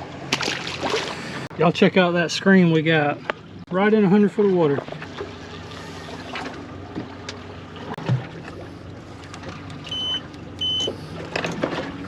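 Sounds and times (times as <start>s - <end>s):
steady low boat hum: 0.0s - 12.0s.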